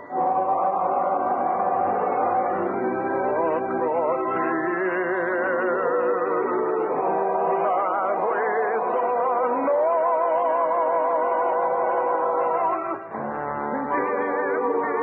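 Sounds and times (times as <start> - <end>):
orchestra playing operetta music: 0.0 - 15.0.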